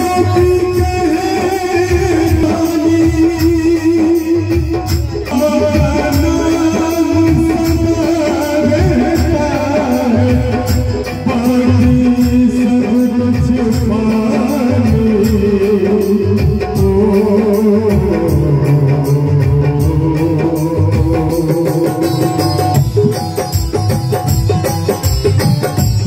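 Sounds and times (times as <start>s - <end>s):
man singing through pa system: 0.0s - 23.2s
hand drum beat: 0.0s - 26.0s
harmonium: 0.0s - 26.0s
keyboard: 0.0s - 26.0s.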